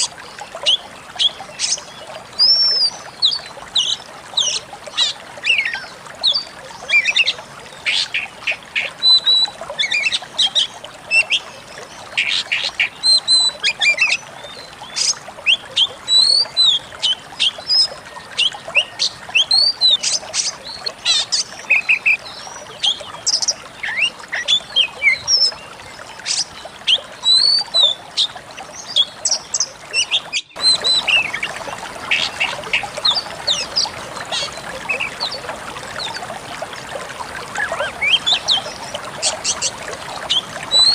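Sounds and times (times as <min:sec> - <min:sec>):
bird singing chirps and trills: 0:00.0 - 0:36.2, 0:37.4 - 0:40.9.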